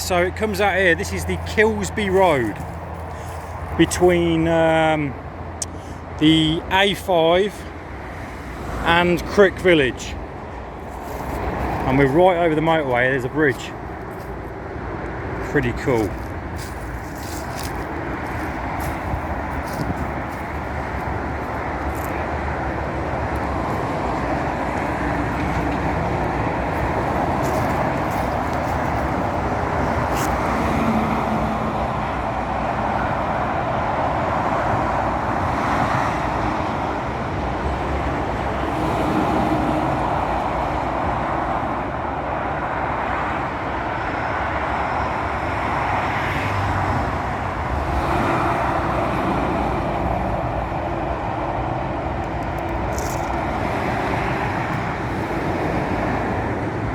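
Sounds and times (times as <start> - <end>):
motorway traffic: 0.0 - 56.9.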